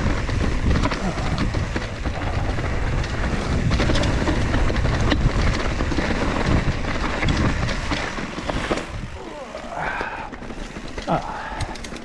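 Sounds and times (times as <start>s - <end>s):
bike rattling over rocks: 0.0s - 12.0s
tyres crunching on gravel: 0.0s - 12.0s
wind rumbling on microphone: 0.0s - 12.0s.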